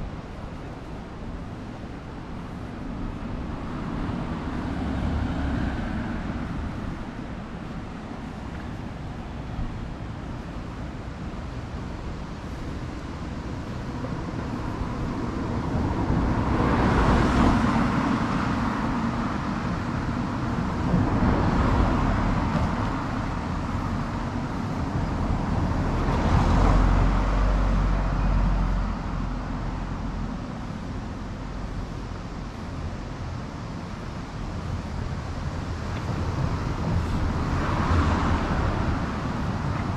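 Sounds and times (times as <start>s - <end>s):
cars driving past: 0.0s - 39.9s.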